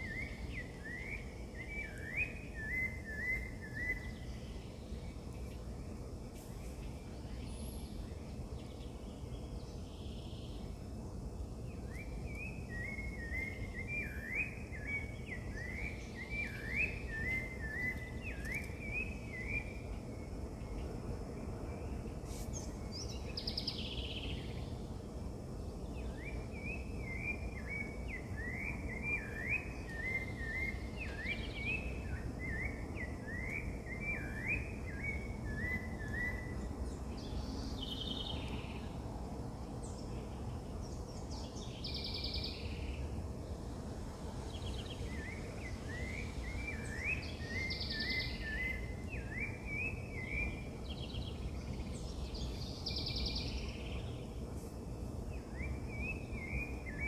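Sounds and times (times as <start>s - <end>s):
birds singing: 0.0s - 39.1s, 39.7s - 57.0s.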